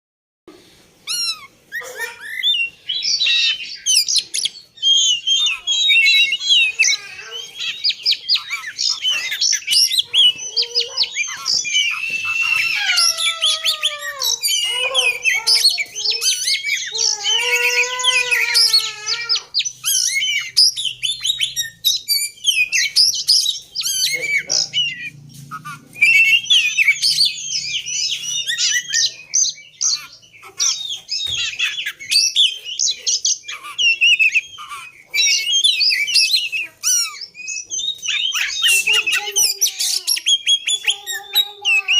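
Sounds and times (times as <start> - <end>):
bird singing whistles and trills: 1.1 - 41.9.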